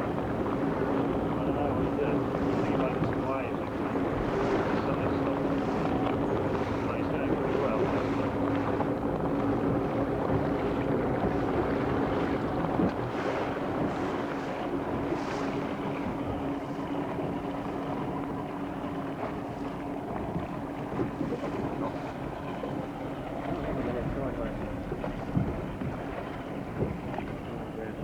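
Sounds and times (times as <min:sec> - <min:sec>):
boat motor running: 0:00.0 - 0:28.0
water noise: 0:00.0 - 0:28.0
wind buffeting microphone: 0:00.0 - 0:28.0.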